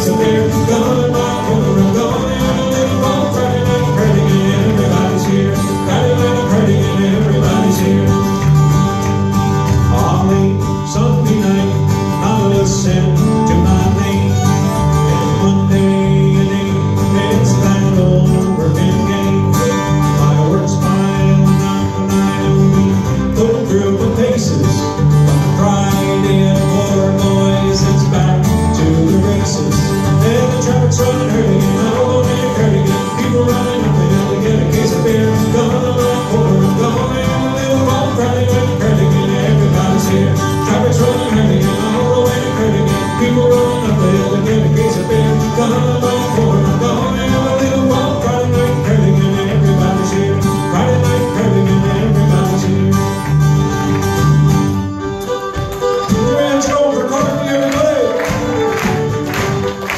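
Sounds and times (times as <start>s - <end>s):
acoustic guitars strummed: 0.0s - 59.9s
electric bass guitar: 0.0s - 59.9s
fiddle: 0.0s - 59.9s.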